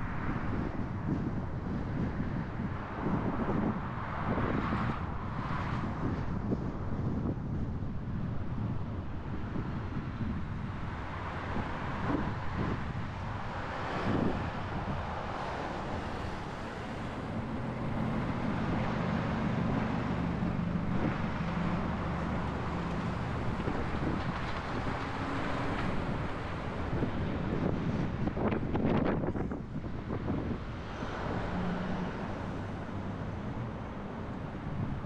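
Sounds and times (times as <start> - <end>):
low engine hum: 0.0 - 35.0
passing vehicles: 0.0 - 35.0
road traffic noise: 0.0 - 35.0
wind on microphone: 0.0 - 35.0.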